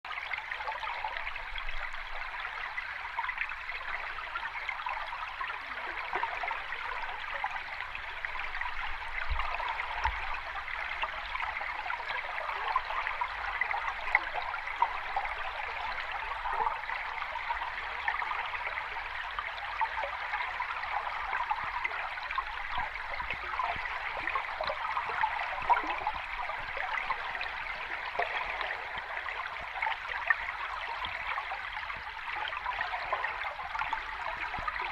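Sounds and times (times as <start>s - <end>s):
water rushing and trickling: 0.1s - 34.9s.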